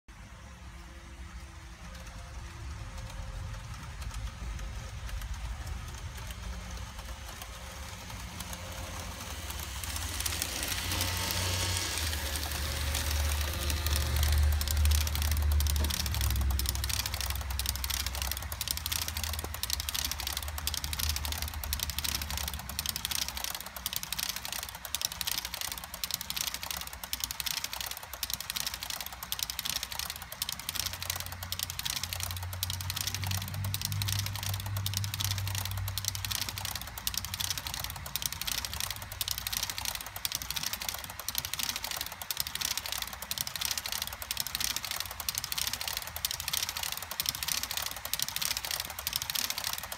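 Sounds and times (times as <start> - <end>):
model train wheels clicking: 0.1 - 49.9.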